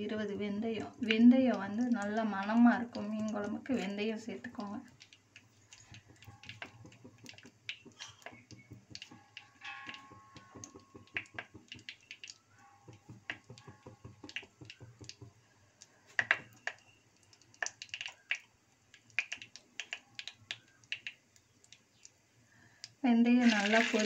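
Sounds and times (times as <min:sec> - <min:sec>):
seeds crackling in hot oil: 0:00.0 - 0:24.0.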